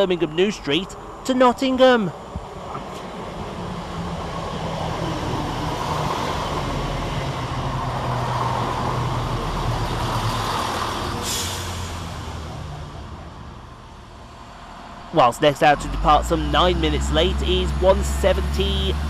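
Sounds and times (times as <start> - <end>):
diesel train engine hum: 0.0 - 19.0.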